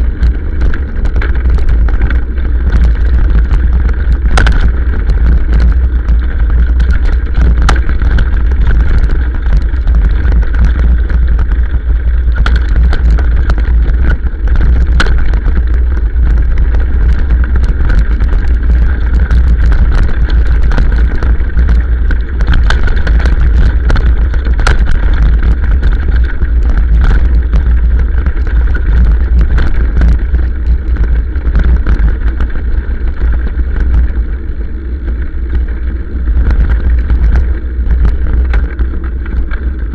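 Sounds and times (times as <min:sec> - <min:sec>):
knocks and rattles from bumps: 0:00.0 - 0:34.2
motorcycle engine rumble: 0:00.0 - 0:39.9.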